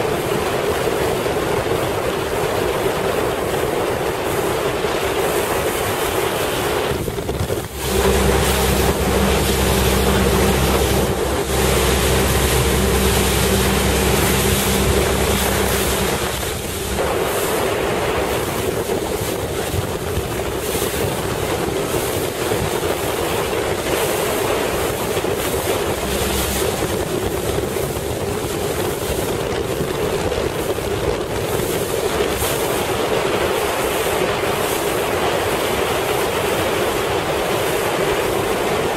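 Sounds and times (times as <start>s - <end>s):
boat engine running: 0.0s - 38.9s
water rushing past hull: 0.0s - 38.9s
wind buffeting microphone: 0.0s - 38.9s.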